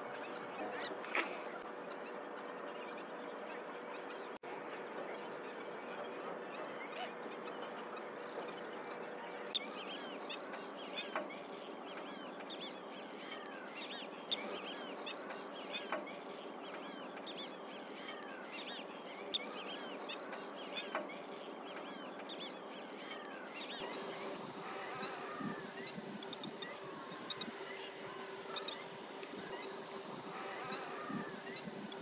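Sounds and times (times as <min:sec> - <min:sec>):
birds chirping in chorus: 0:00.0 - 0:04.4, 0:06.6 - 0:32.0.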